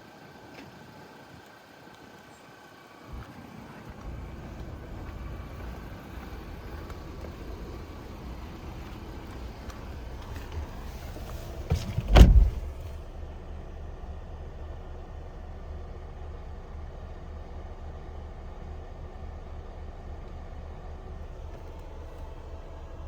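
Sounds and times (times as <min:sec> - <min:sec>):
car engine starting and idling: 0:00.0 - 0:23.0.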